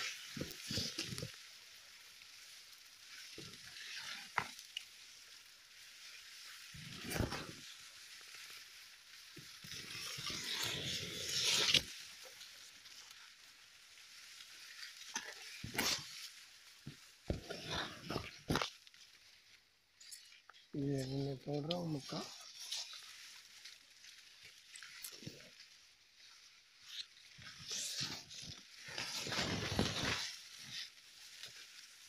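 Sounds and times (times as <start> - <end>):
leaves brushing microphone: 0.0 - 32.0
maize leaves rustling: 0.0 - 32.0.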